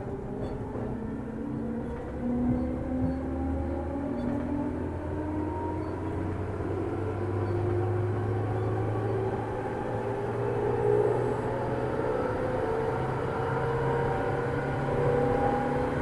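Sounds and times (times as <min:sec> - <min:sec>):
low train hum and rumble: 0:00.0 - 0:16.0.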